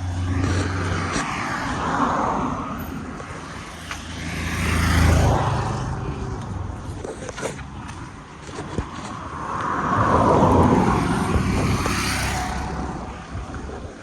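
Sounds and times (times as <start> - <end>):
vehicles passing by: 0.0 - 14.0.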